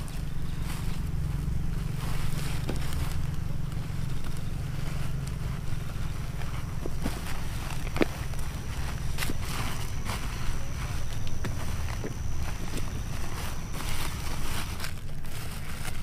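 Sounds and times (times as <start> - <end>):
faint rustling of vines: 0.0 - 16.0.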